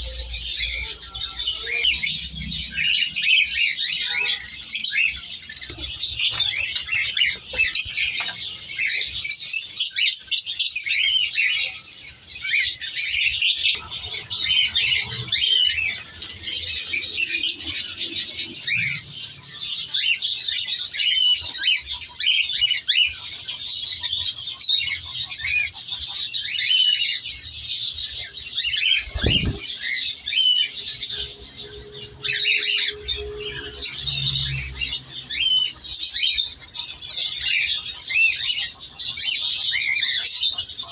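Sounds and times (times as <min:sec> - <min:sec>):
cockatiels chirping and calling: 0:00.0 - 0:40.9.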